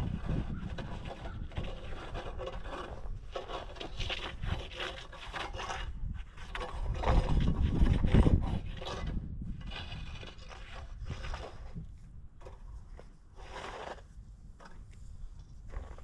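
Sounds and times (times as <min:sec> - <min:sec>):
snow shovel scraping snow: 0:00.0 - 0:14.3, 0:15.6 - 0:16.0.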